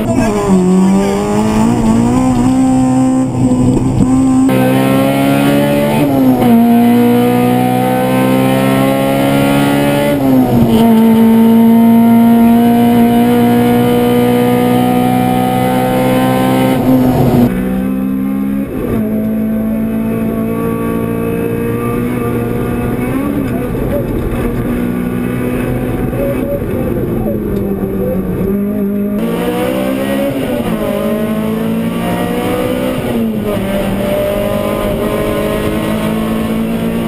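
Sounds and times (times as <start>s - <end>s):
rally car engine pulling through gears: 0.0s - 37.0s.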